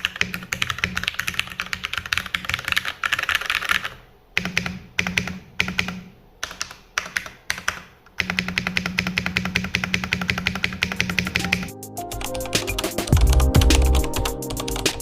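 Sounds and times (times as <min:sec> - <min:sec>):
mechanical keyboard typing: 0:00.0 - 0:15.0.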